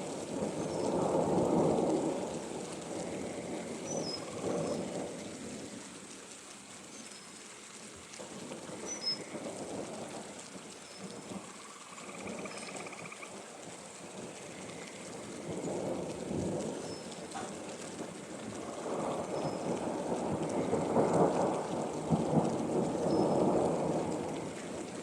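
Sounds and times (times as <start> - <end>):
rain falling on a pond: 0.0 - 25.0.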